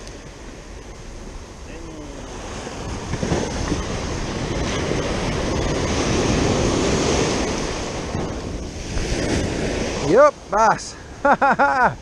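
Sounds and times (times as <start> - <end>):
wind buffeting microphone: 0.0 - 11.2
ocean surf breaking: 0.0 - 12.0.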